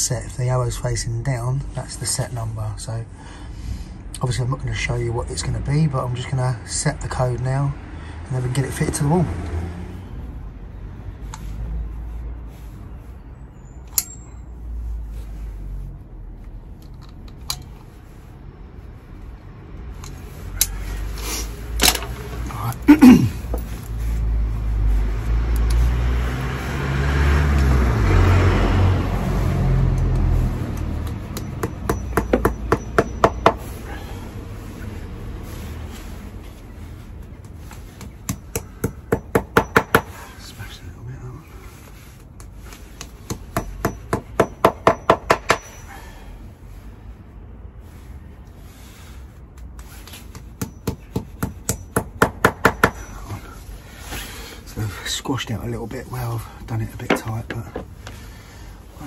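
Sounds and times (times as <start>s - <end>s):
passing vehicle rumbling: 0.0s - 49.8s.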